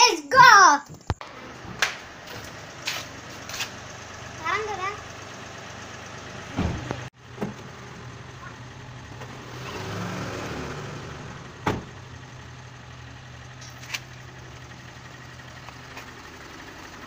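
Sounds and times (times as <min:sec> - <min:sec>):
diesel engine idling: 0:01.2 - 0:17.0.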